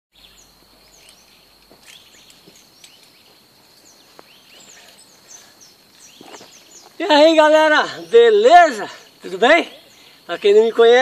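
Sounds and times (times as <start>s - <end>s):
bird chirps: 0.1s - 11.0s
high-pitched insect trill: 0.1s - 11.0s.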